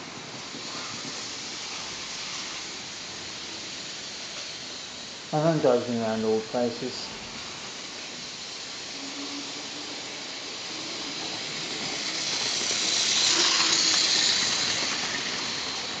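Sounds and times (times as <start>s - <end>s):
model train whirring: 0.0s - 16.0s.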